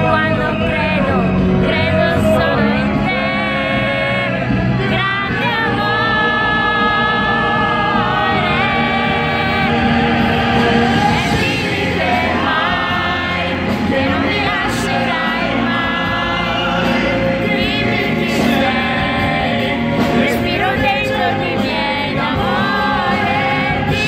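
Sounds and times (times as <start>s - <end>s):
men singing operatic pop: 0.0s - 24.0s.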